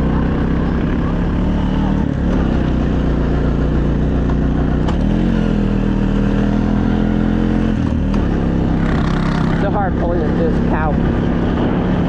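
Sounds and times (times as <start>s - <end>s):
off-road vehicle engine: 0.0s - 12.0s.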